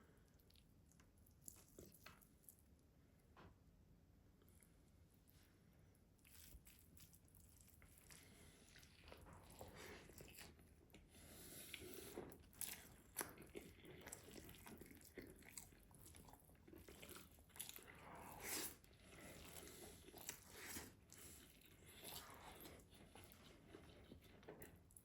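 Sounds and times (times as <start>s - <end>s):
close chewing and mouth sounds: 0.0s - 2.9s, 6.0s - 25.0s.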